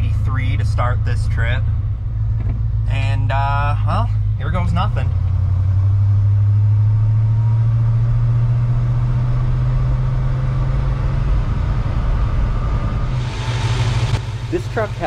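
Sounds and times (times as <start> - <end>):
truck engine drone from inside cab: 0.0 - 15.0.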